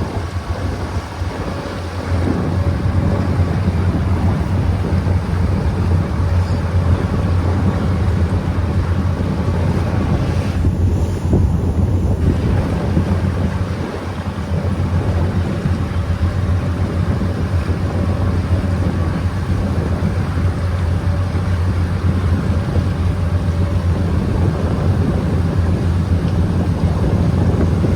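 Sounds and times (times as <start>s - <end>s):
boat engine drone: 0.0s - 27.9s
water noise: 0.0s - 27.9s
wind: 0.0s - 27.9s.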